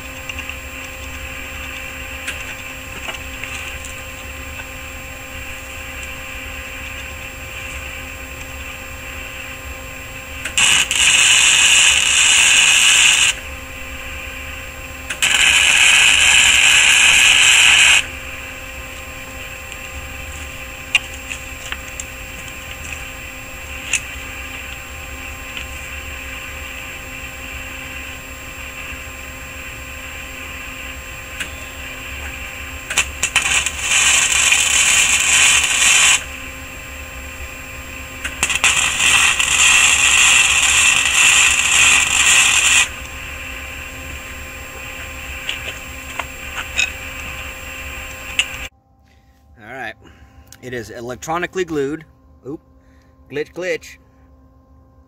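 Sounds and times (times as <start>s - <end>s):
electric arc welding: 0.0s - 9.5s, 10.2s - 48.7s
steady hum: 0.0s - 55.0s.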